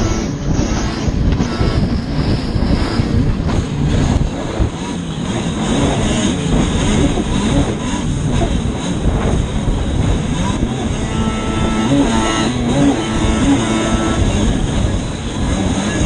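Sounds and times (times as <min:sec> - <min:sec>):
watercraft engine running hard: 0:00.0 - 0:16.0
wind and water spray rushing: 0:00.0 - 0:16.0.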